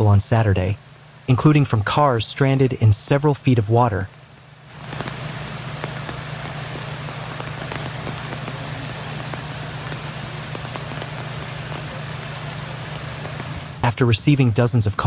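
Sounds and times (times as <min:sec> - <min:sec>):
heavy rain falling: 0:00.0 - 0:15.0
low hum: 0:00.0 - 0:15.0.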